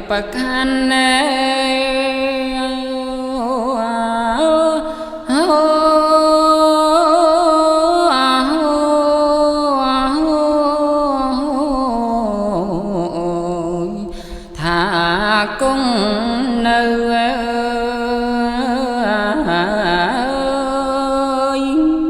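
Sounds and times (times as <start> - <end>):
person chanting unaccompanied: 0.0 - 22.0.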